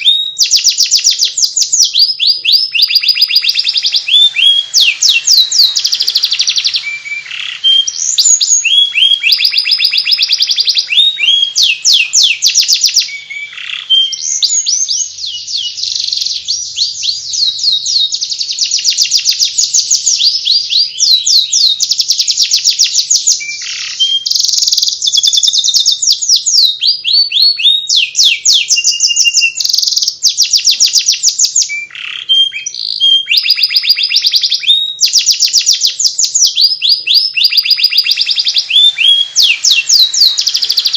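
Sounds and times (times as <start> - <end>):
canary twittering song: 0.0 - 40.9.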